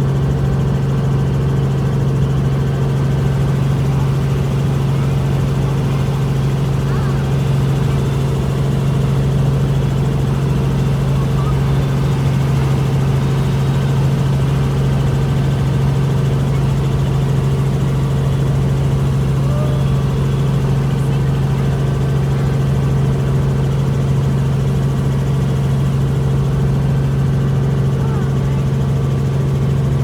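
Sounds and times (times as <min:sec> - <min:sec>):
helicopter drone hum: 0:00.0 - 0:30.0.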